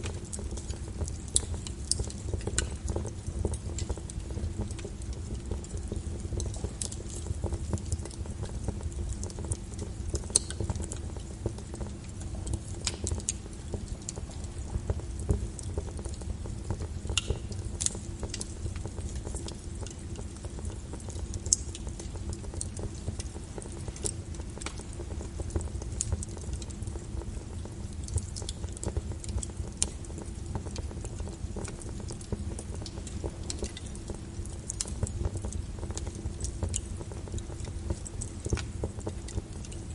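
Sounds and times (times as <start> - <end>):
fire pops: 0.0 - 39.9
wood fire crackling: 0.0 - 39.9.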